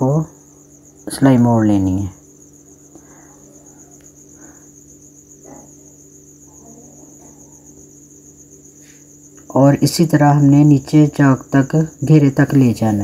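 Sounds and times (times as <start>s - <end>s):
faint low hum: 0.0s - 13.0s
high fast cricket-like trill: 0.0s - 13.0s.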